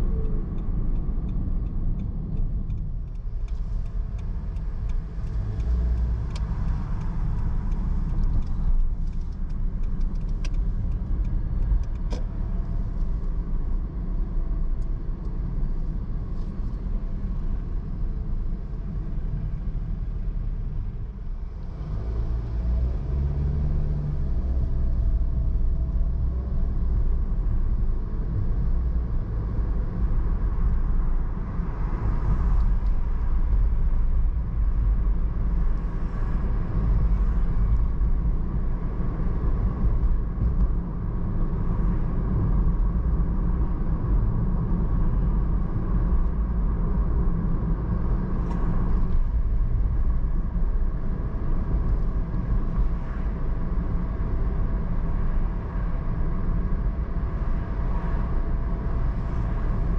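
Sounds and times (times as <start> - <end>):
car engine rumble: 0.0 - 59.9
tyres on road: 0.0 - 59.9.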